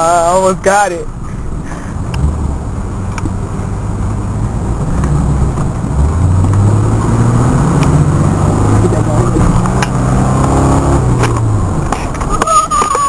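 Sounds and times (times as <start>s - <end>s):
road noise: 0.0s - 13.0s
car engine accelerating: 1.1s - 13.0s.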